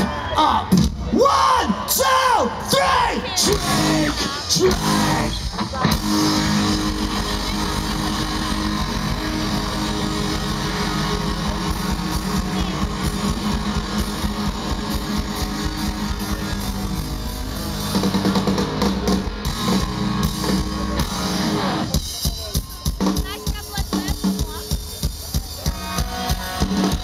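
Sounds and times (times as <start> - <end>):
punk rock band playing: 0.0 - 27.0.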